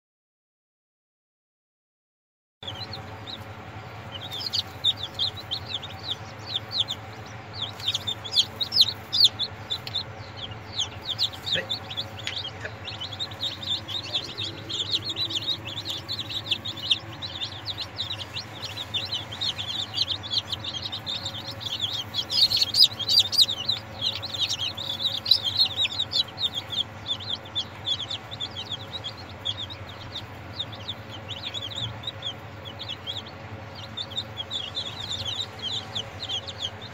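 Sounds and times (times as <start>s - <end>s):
chicks peeping: 2.6s - 36.9s
steady low hum: 2.6s - 36.9s.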